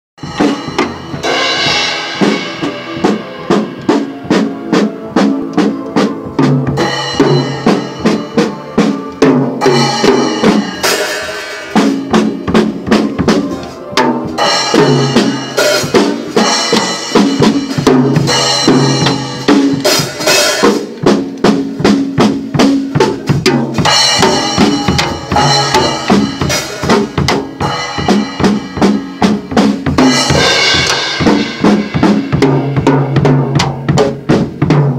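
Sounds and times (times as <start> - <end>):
backing music with held notes: 0.2 - 34.9
drum kit playing a beat: 0.2 - 34.9.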